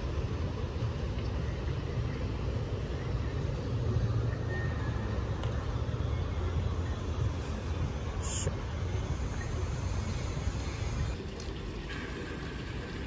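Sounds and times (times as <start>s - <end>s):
low rumble of city ambience: 0.0s - 13.0s.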